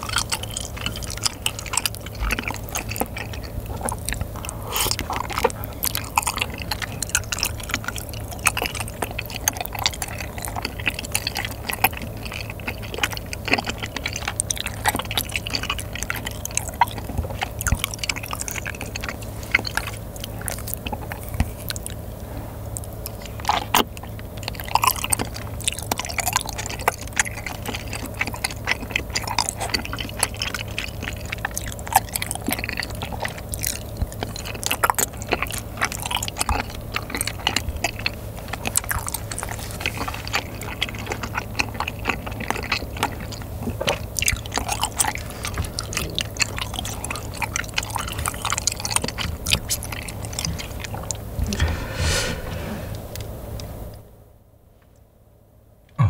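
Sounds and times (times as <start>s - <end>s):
rapid mouth clicks: 0.0s - 22.1s, 22.7s - 51.7s
close-miked wet chewing: 0.0s - 54.1s.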